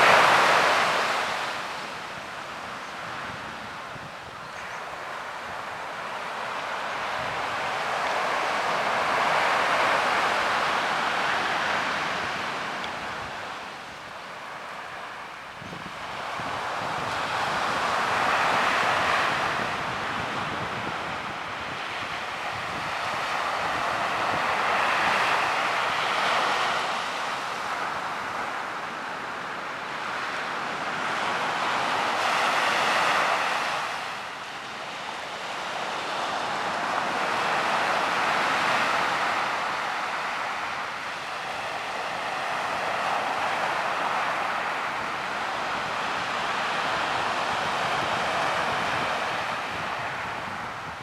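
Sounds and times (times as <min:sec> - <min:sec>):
waves breaking and washing in: 0:00.0 - 0:51.0.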